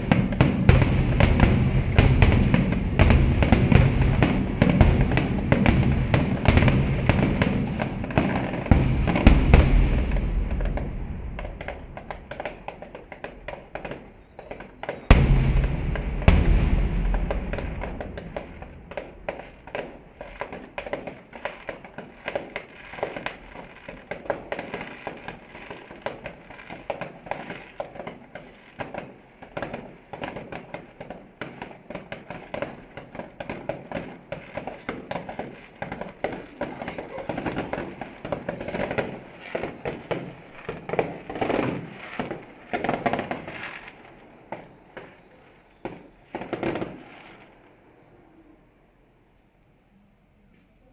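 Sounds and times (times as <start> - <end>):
fireworks crackling and banging: 0.0 - 49.4.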